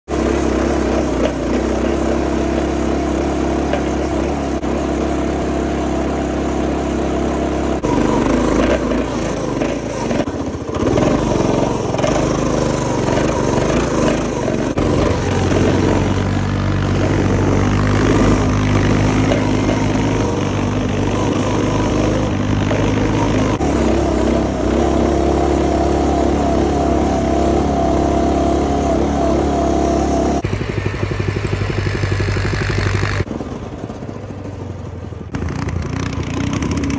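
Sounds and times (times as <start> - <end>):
minibike engine revving: 0.1 - 36.9.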